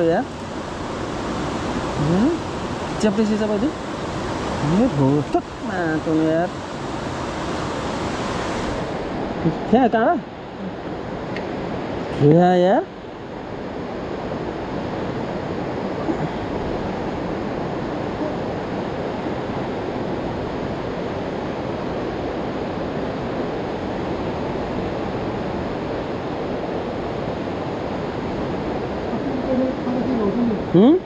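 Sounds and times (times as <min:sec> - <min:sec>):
fast-flowing river rushing: 0:00.0 - 0:31.0.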